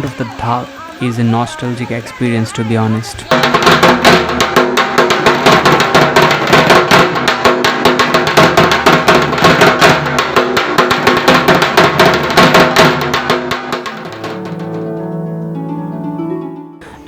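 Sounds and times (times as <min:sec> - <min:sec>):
barrel drum beaten fast: 0:00.0 - 0:15.2.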